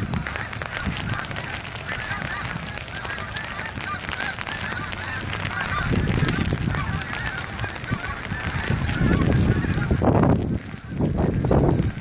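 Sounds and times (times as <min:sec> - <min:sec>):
geese honking: 0:00.0 - 0:12.0
wind buffeting microphone: 0:00.0 - 0:12.0.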